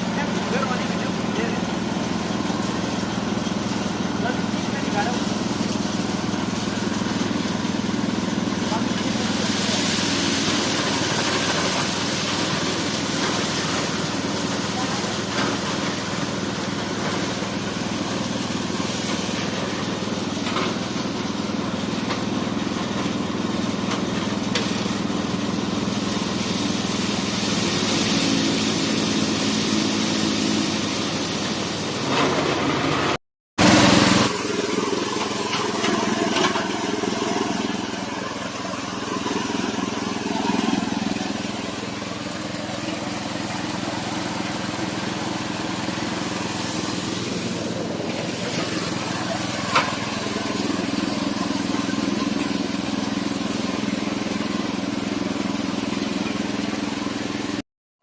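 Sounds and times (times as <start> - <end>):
small petrol engine running: 0.0 - 57.6.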